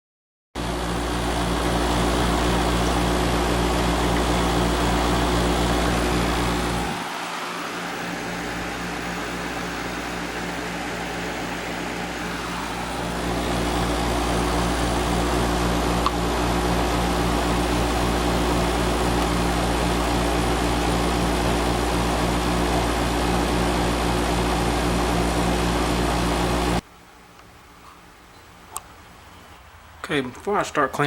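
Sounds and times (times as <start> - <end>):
fan rushing: 0.6 - 26.8
compressor hum: 0.6 - 30.6.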